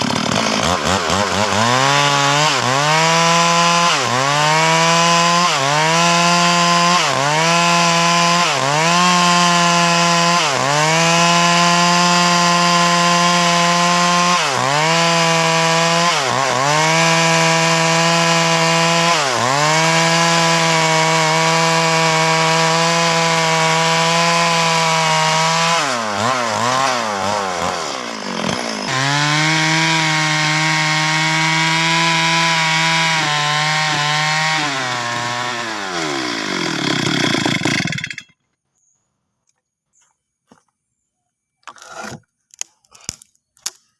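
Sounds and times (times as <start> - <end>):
chainsaw cutting wood: 0.0 - 38.5, 41.6 - 43.9.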